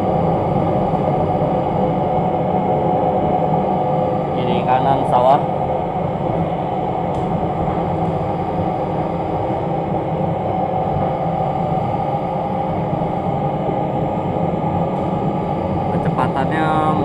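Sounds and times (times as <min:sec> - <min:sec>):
railbus cabin rumble and hum: 0:00.0 - 0:17.0.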